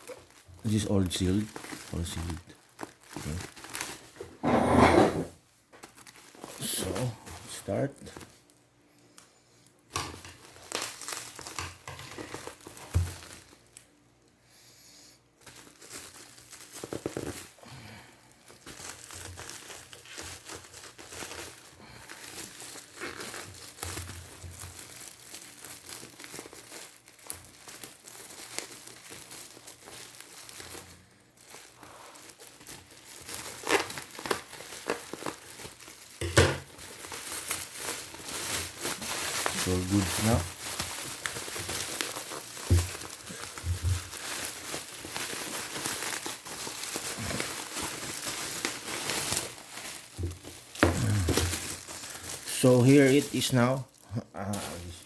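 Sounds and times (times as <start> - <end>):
packaging crinkling and tearing: 0.0 - 4.4, 5.8 - 8.6, 9.9 - 14.0, 15.4 - 55.0.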